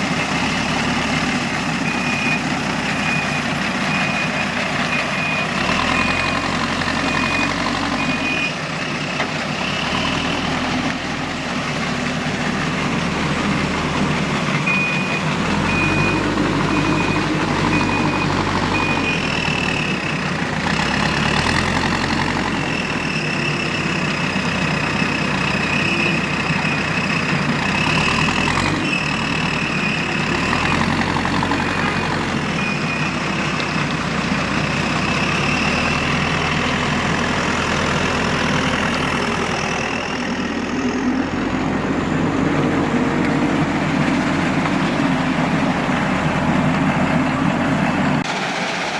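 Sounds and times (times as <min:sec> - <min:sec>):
backhoe diesel engine working: 0:00.0 - 0:48.9
reversing alarm beeping: 0:00.1 - 0:41.4.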